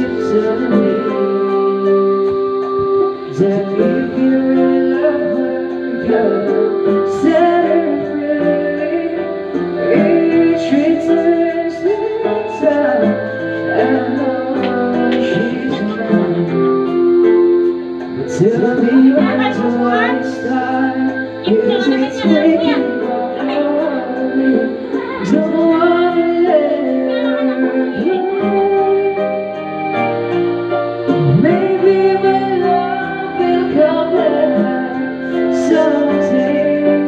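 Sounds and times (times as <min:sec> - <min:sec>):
person singing: 0:00.0 - 0:37.0
pop ballad music: 0:00.0 - 0:37.0.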